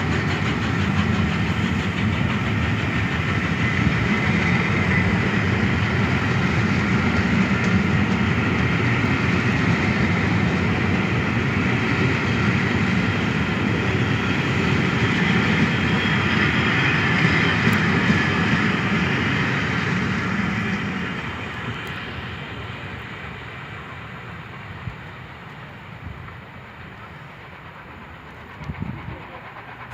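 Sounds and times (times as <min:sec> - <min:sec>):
train rumbling past on rails: 0:00.0 - 0:29.9.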